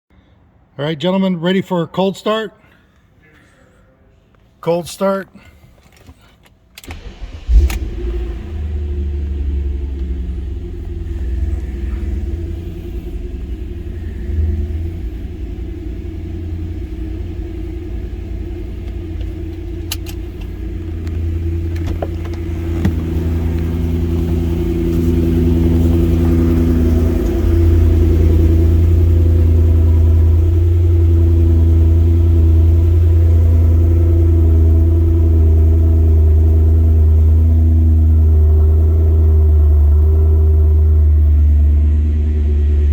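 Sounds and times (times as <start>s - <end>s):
car engine idling: 6.8s - 42.9s.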